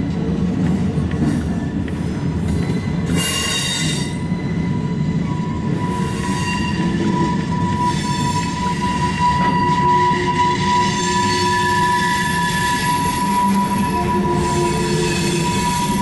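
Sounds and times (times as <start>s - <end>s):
train railcars rumbling: 0.0s - 16.0s
train wheels squealing: 1.4s - 16.0s.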